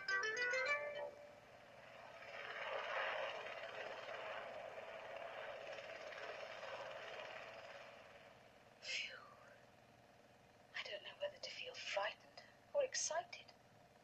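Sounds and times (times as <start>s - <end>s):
helicopter flying overhead: 0.0s - 14.0s.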